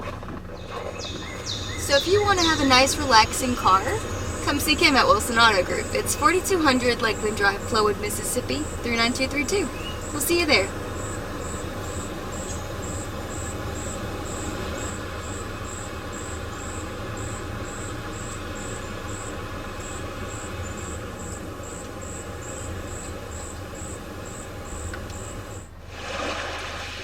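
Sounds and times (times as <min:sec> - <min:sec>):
low steady hum: 0:00.0 - 0:27.0
crickets chirping: 0:00.6 - 0:27.0.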